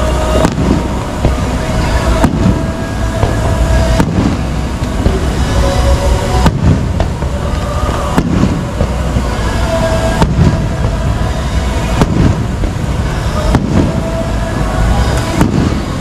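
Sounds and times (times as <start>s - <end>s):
faint show music: 0.0s - 16.0s
fireworks booming and crackling: 0.0s - 16.0s.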